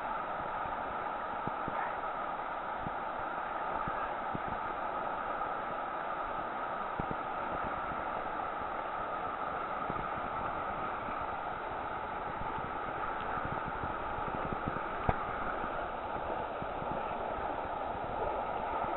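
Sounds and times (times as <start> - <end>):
whitewater river rapids rushing: 0.0 - 18.9.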